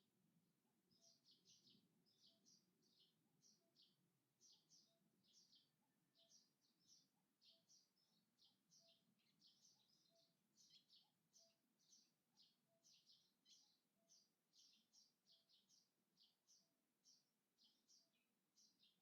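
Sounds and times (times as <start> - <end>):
small birds chirping: 0.9 - 19.0.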